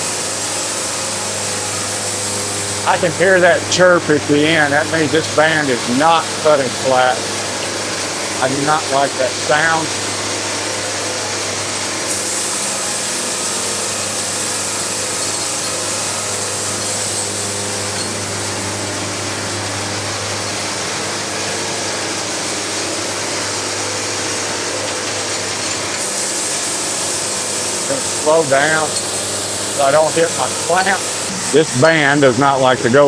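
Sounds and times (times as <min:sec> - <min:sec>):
saw band hissing through wood: 0:00.0 - 0:31.8.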